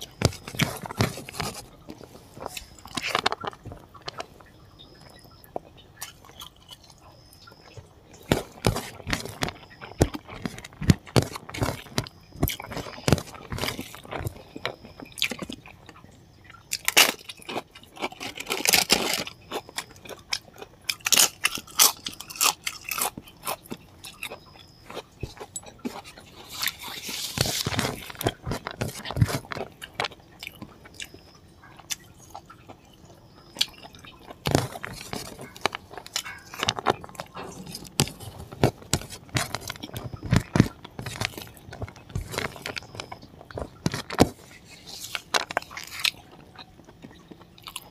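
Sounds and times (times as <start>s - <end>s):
chewing and crunching: 0.0s - 47.9s.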